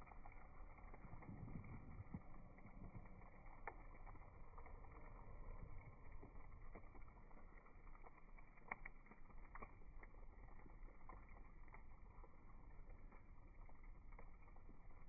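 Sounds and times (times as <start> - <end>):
firewood crackling: 0.0 - 15.0
low rumble: 0.0 - 15.0.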